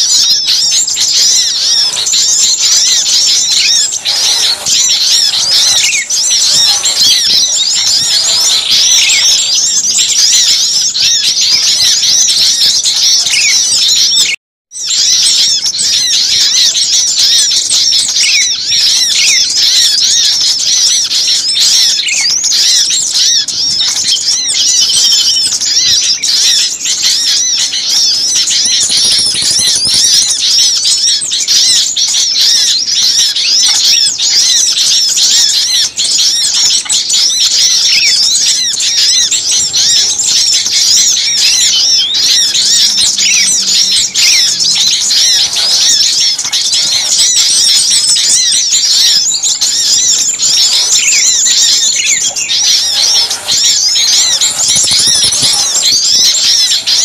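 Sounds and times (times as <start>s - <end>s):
chorus of small birds chirping: 0.0s - 57.0s.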